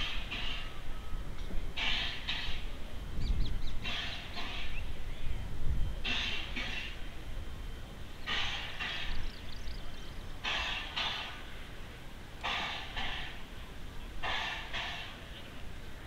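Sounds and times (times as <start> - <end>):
steam locomotive exhaust chuffing: 0.0 - 16.0.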